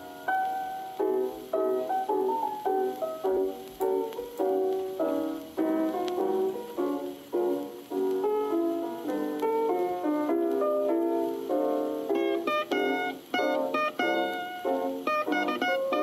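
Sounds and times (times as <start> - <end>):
instrumental music with melody: 0.0 - 16.0.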